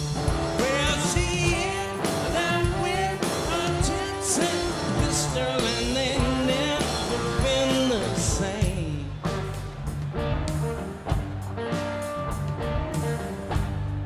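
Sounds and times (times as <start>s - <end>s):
drums: 0.0s - 14.0s
electric guitar lead: 0.0s - 14.0s.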